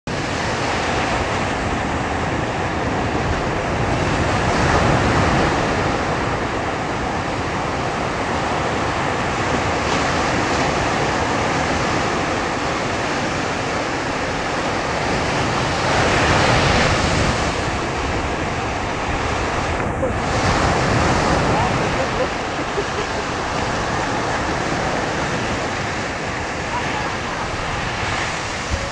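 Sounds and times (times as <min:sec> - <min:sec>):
ocean surf breaking: 0:00.1 - 0:28.9.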